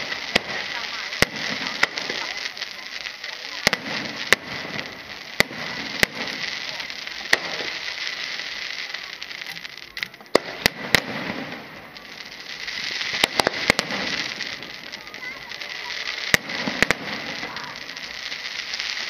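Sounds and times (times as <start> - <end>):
firework shells bursting: 0.0 - 19.0
fireworks crackling: 0.0 - 19.0.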